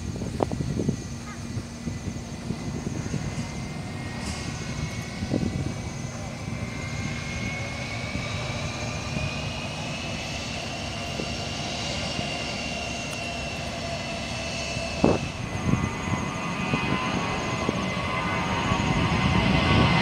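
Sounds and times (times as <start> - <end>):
jet engines with rising whine: 0.0 - 20.0.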